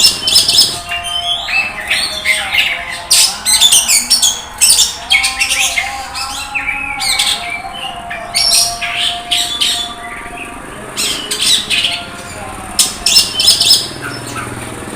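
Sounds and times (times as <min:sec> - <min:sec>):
songbird scratchy high chirps: 0:00.0 - 0:14.6.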